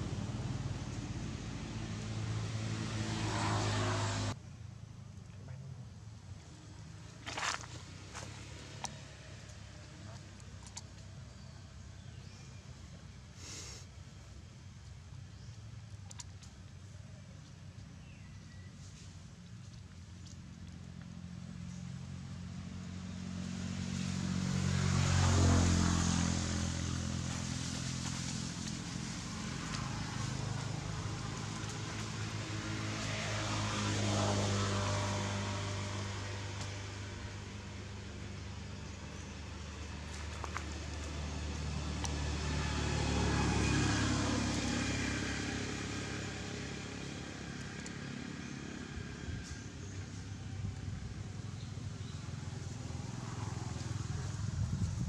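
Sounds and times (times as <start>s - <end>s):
vehicle engine passing by: 0.0s - 4.4s, 5.2s - 13.8s, 18.0s - 55.0s.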